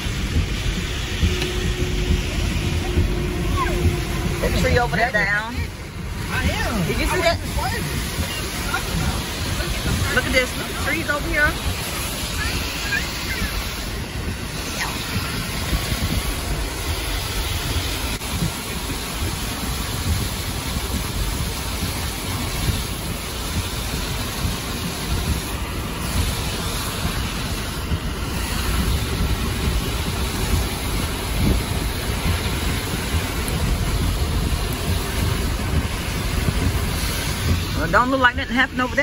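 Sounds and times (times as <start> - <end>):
car road and engine noise: 0.0 - 39.0.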